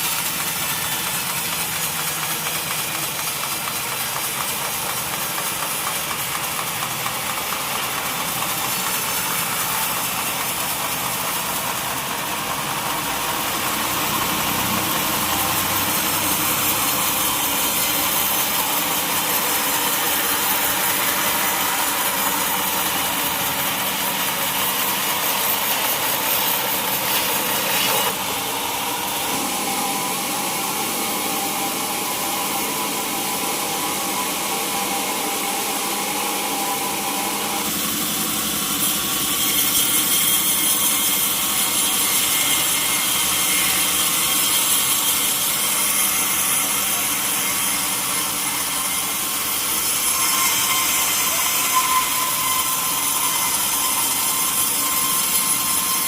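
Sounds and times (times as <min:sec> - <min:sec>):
saw blade cutting through log: 0:00.0 - 0:56.0.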